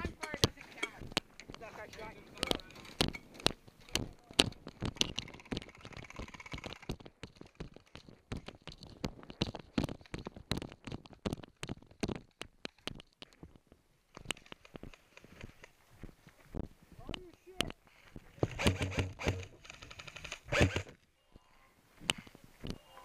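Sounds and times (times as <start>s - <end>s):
footsteps on dirt path: 0.0s - 18.6s
gear jostling and clicking: 0.0s - 21.0s.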